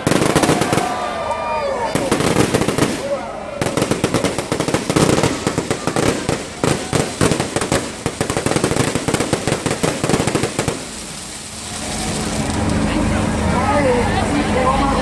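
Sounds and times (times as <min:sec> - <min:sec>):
fireworks bangs and crackles: 0:00.0 - 0:13.1.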